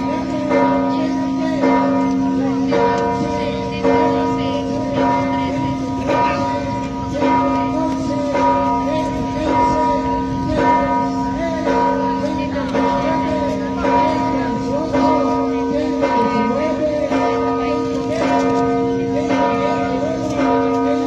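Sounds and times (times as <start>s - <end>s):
church bell ringing: 0.0s - 21.0s
voices murmuring: 0.0s - 21.0s.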